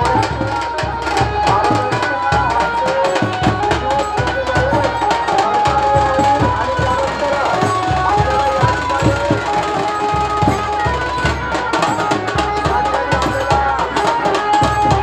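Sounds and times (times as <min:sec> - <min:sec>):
fast hand-drum beats: 0:00.0 - 0:15.0.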